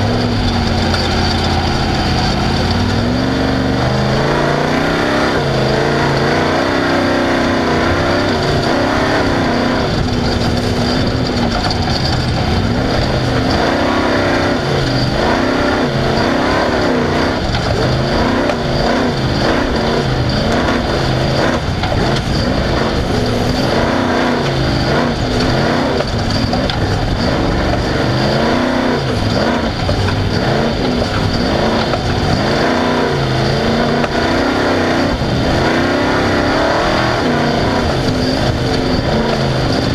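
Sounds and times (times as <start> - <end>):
race vehicle engine revving: 0.0 - 39.9.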